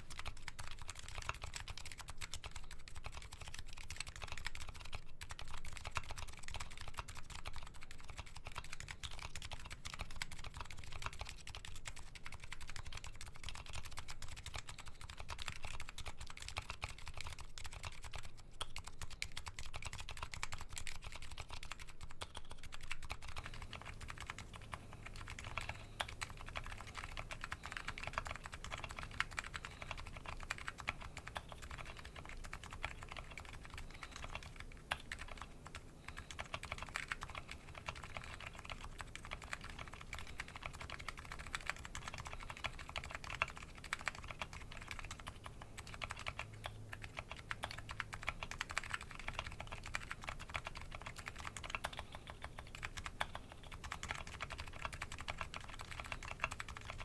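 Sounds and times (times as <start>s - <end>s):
fast keyboard typing: 0.0s - 57.0s.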